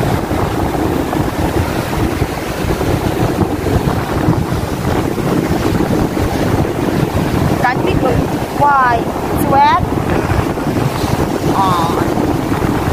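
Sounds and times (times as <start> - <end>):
waves breaking on shore: 0.0 - 12.9
wind buffeting microphone: 0.0 - 12.9.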